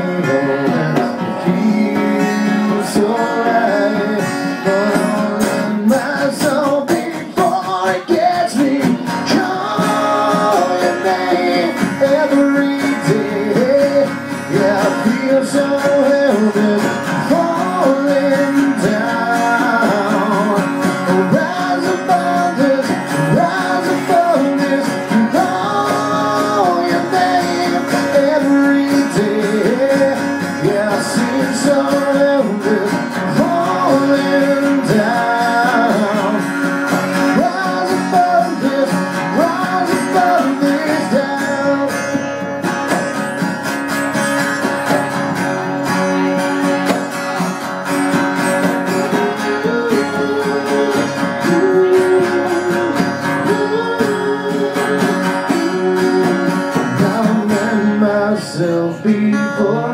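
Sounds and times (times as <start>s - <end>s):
man singing: 0.0s - 43.3s, 48.1s - 59.9s
acoustic guitar strumming: 0.0s - 59.9s.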